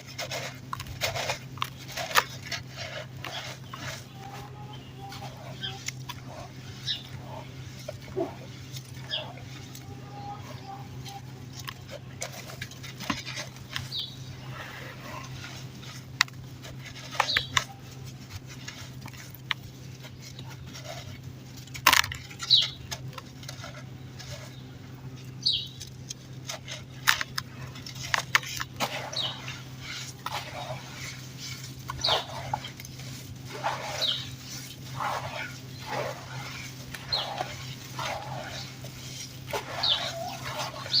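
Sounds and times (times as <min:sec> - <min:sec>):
dry dirt crunching: 0:00.0 - 0:41.0
steady low hum: 0:00.0 - 0:41.0.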